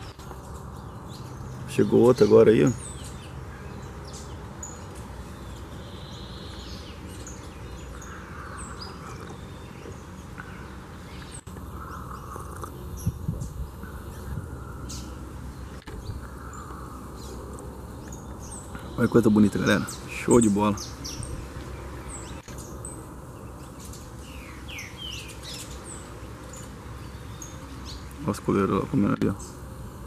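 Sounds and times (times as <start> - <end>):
small birds chirping: 0.0 - 30.0
steady outdoor hiss: 0.0 - 30.0.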